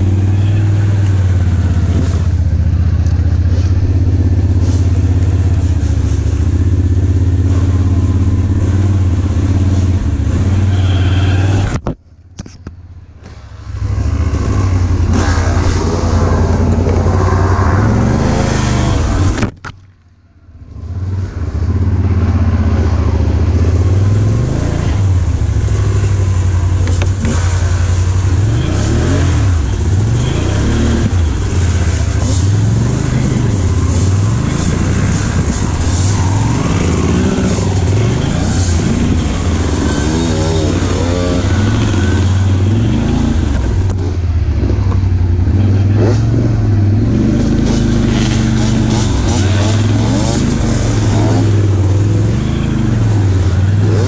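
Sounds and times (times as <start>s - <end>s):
atv engine revving: 0.0s - 12.5s, 13.2s - 19.5s, 20.6s - 54.0s.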